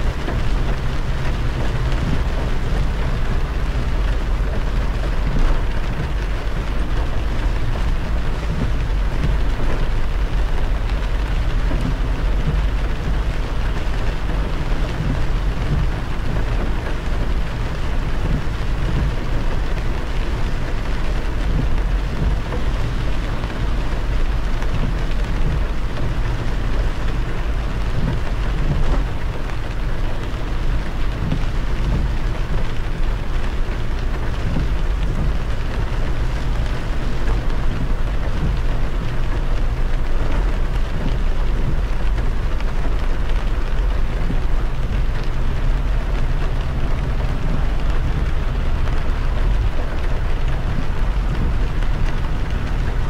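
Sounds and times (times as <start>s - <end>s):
deep rumble: 0.0s - 53.0s
rain and spray hissing: 0.0s - 53.0s
tyre and road noise: 0.0s - 53.0s.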